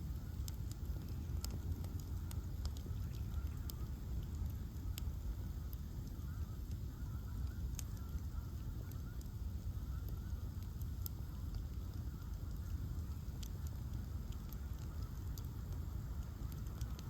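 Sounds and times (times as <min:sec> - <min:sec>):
bonfire crackling and rumbling: 0:00.0 - 0:17.0.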